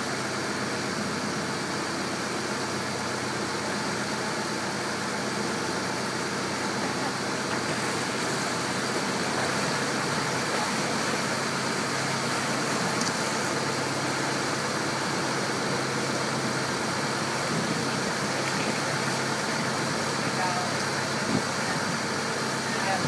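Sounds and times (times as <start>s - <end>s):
boat engine humming: 0.0s - 23.0s
wake rushing: 0.0s - 23.0s.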